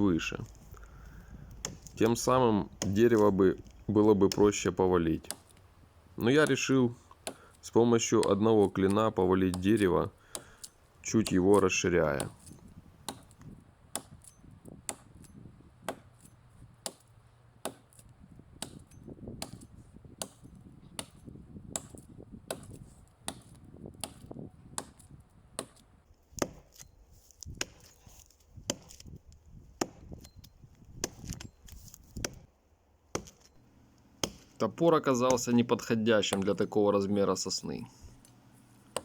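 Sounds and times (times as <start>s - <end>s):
axe chopping wood: 1.5s - 5.6s, 6.2s - 29.2s, 29.8s - 30.3s, 31.0s - 32.5s, 33.1s - 33.5s, 34.2s - 34.6s, 35.2s - 36.7s.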